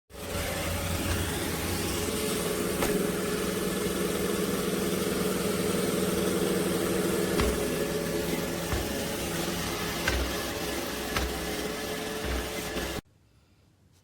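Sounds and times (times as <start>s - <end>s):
robot vacuum motor whir: 0.1s - 13.0s.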